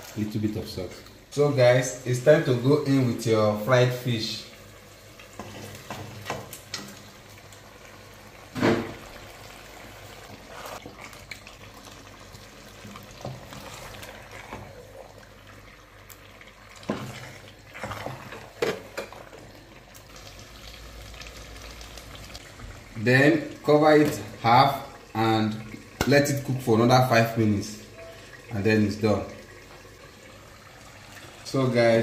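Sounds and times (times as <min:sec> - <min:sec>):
sauce bubbling: 0:00.0 - 0:31.8.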